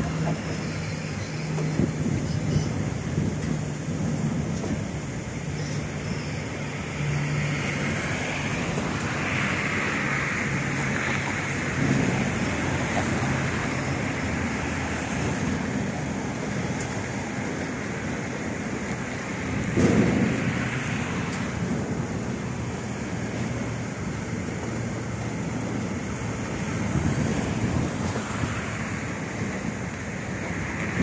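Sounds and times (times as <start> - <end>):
freight wagons rolling on rails: 0.0 - 31.0.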